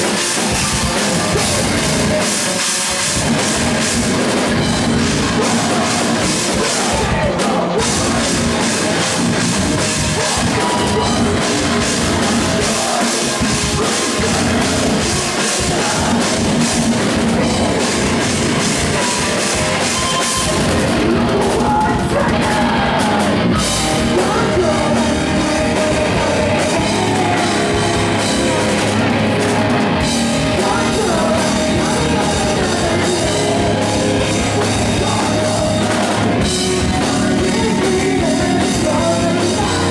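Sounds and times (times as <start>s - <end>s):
drum kit: 0.0s - 39.9s
loud live rock band: 0.0s - 39.9s.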